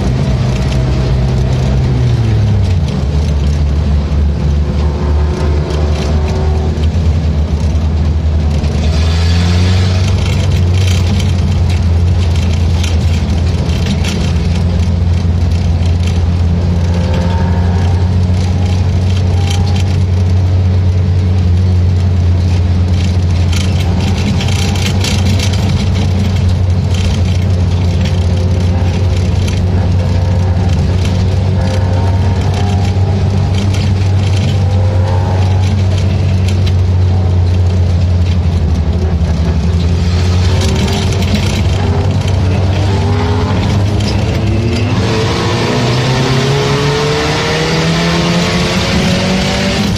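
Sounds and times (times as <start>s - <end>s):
race car engine droning: 0.0s - 49.9s.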